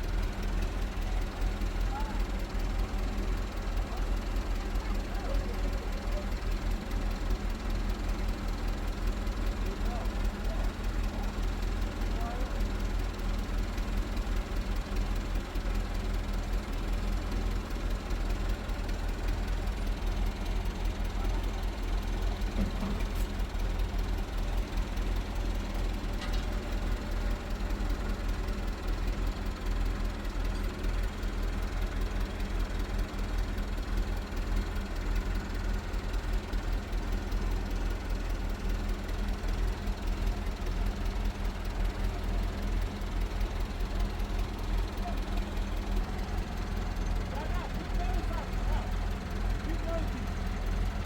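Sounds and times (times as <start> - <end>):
engine running: 0.0 - 51.0.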